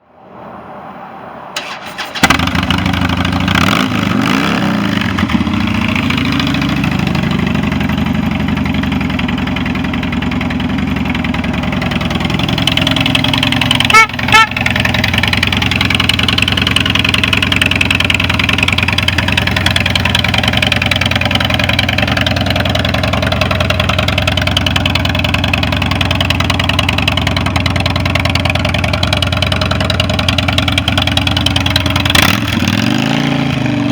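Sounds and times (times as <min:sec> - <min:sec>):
motorcycle throttle blips: 0:01.6 - 0:32.8
motorcycle engine starting and idling: 0:01.6 - 0:33.9.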